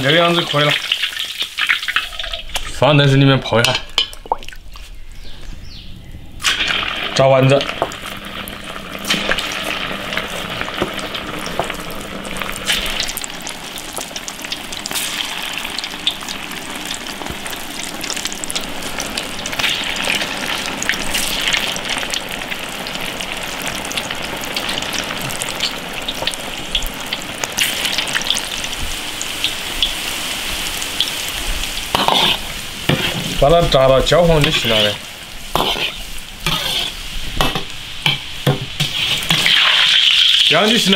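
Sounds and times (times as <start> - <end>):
meatballs sizzling in hot oil: 0.0 - 2.8, 6.4 - 40.9.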